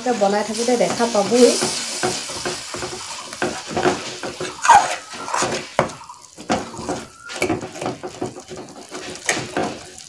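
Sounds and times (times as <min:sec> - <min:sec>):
metal spatula scraping pan: 0:00.0 - 0:10.0.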